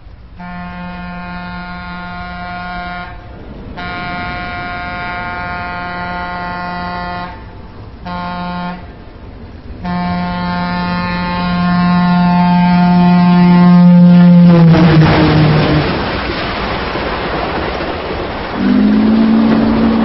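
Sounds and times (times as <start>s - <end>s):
train horn blasts: 0.4s - 9.1s, 9.8s - 15.8s, 18.6s - 20.0s.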